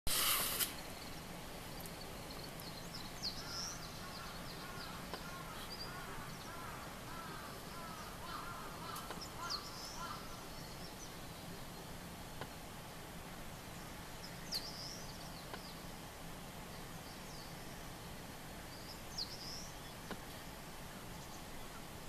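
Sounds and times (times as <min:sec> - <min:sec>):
songbirds chirping: 0:00.6 - 0:22.0.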